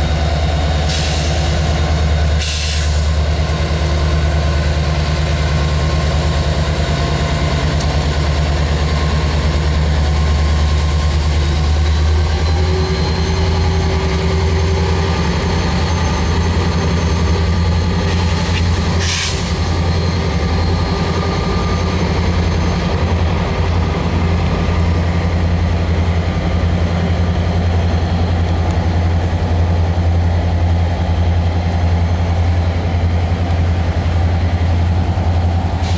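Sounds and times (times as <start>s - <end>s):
diesel locomotive engines rumbling: 0.0s - 35.9s
rail car noise: 0.0s - 35.9s.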